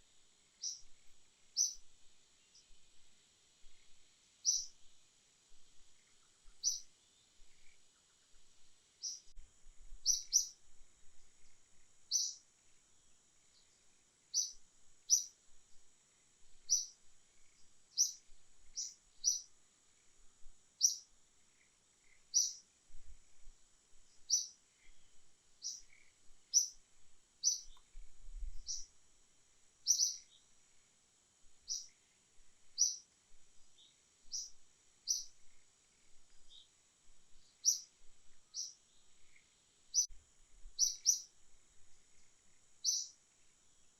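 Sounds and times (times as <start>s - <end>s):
faint high-pitched hiss: 0.0s - 43.9s.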